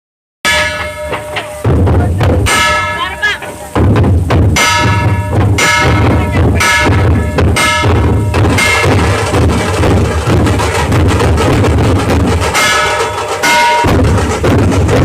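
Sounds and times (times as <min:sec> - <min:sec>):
metallic ringing strikes: 0:00.5 - 0:14.6
dhol drums pounding: 0:00.5 - 0:15.0.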